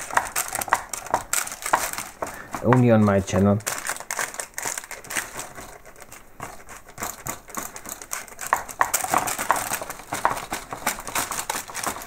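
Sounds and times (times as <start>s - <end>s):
baking paper crinkling: 0.0s - 12.0s
metal spoon scraping cookie dough: 0.0s - 12.0s.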